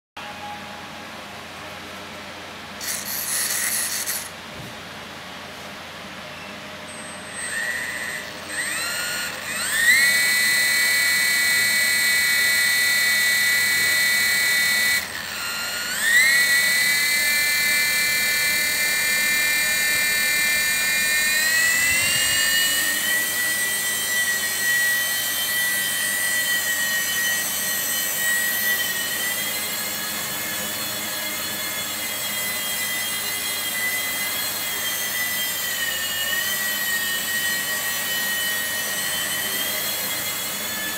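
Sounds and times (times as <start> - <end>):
rc helicopter motor whine: 2.8 - 4.4, 7.3 - 40.9.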